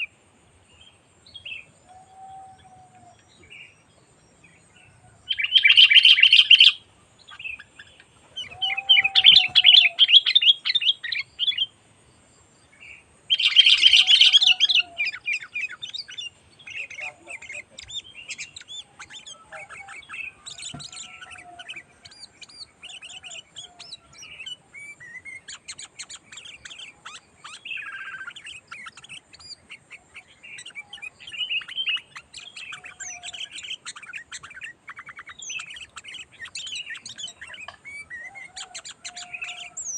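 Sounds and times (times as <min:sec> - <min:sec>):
bulbuls chattering: 0:01.5 - 0:11.7, 0:12.9 - 0:39.9.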